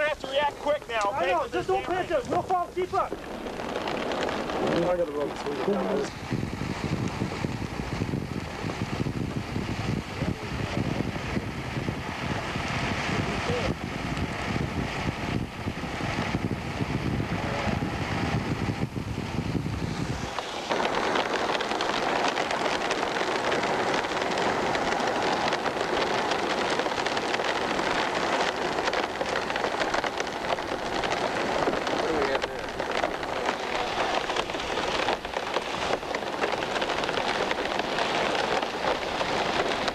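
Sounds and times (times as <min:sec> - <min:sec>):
heavy rain hissing: 0:00.0 - 0:39.9
wind buffeting microphone: 0:00.0 - 0:39.9.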